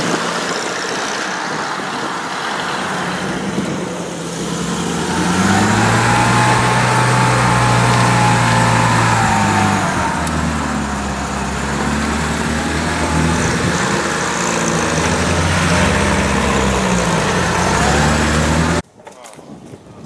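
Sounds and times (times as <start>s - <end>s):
off-road vehicle engine running: 0.0s - 18.8s.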